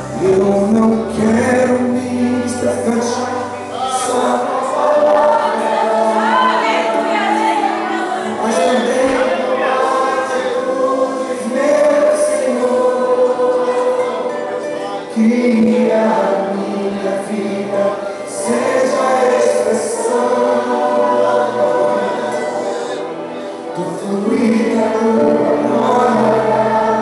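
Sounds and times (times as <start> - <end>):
choir-like singing: 0.0 - 27.0
instrumental backing music: 0.0 - 27.0.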